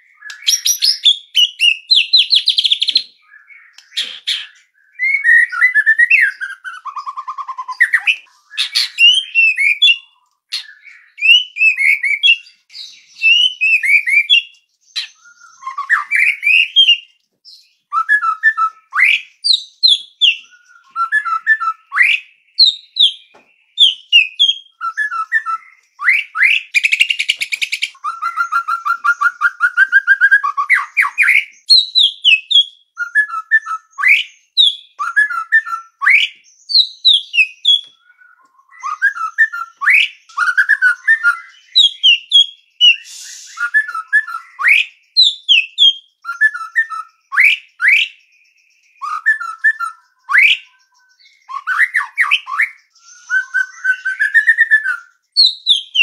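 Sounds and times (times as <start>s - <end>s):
bird singing whistled phrases: 0.0s - 56.0s
fast bird trill: 0.0s - 56.0s.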